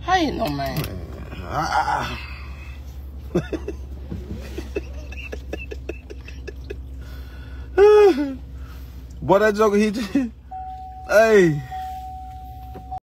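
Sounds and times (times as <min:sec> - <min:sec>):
truck cab hum: 0:00.0 - 0:13.0.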